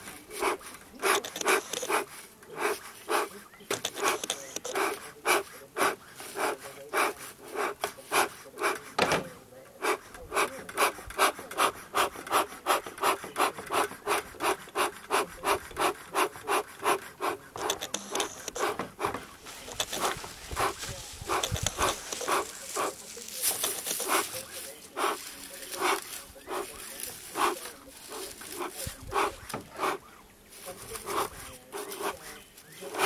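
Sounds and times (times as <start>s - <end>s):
smoker bellows puffing: 0.0s - 30.1s.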